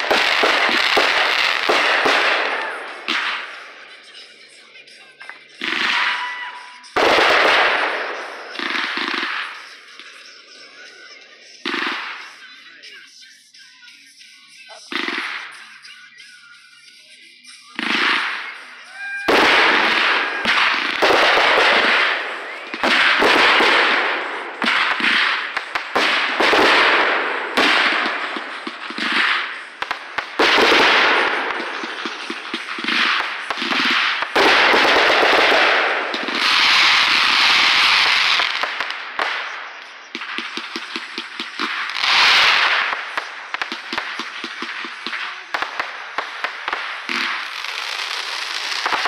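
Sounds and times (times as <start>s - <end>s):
fireworks barrage bangs: 0.0s - 13.0s, 14.6s - 16.3s, 17.4s - 49.0s.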